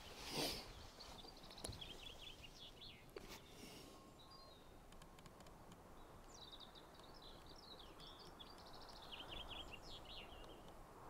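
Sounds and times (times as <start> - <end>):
small bird twittering song: 0.0 - 10.8.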